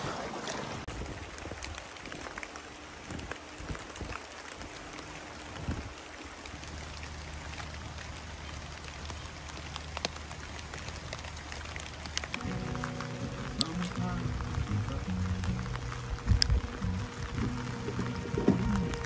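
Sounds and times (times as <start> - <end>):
rain falling on leaves: 0.4 - 19.0
water drip ticks: 0.9 - 19.0.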